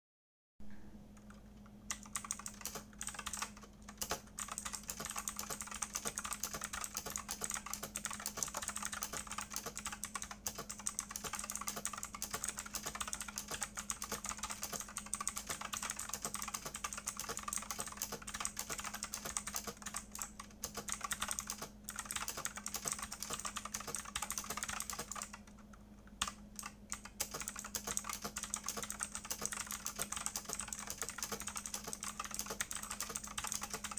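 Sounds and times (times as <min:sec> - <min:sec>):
faint steady hum: 0:00.6 - 0:33.9
mechanical keyboard typing: 0:01.2 - 0:33.9.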